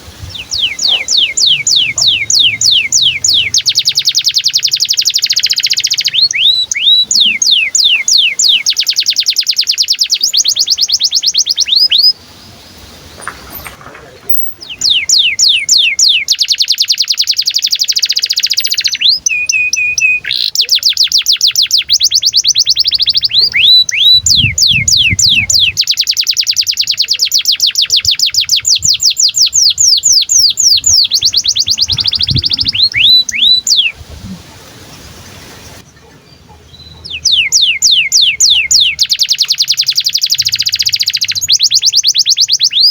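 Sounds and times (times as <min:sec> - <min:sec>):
canary chirping: 0:00.0 - 0:34.0, 0:35.8 - 0:42.9
canary trill: 0:00.0 - 0:34.4, 0:35.7 - 0:42.9.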